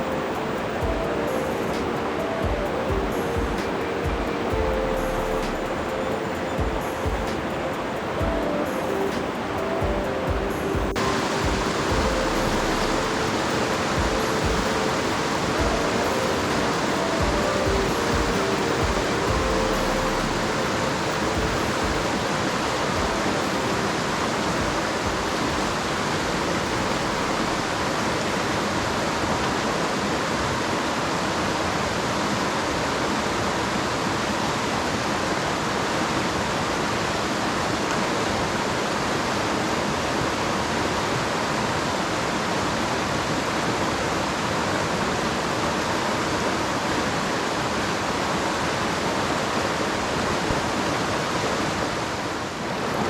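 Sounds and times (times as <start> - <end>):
stream rushing over rocks: 0.0 - 53.0.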